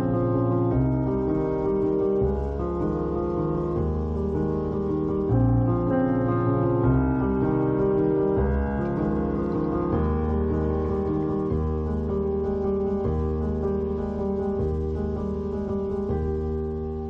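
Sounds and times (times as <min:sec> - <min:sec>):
gentle piano music: 0:00.0 - 0:17.0
low bass: 0:00.0 - 0:17.0.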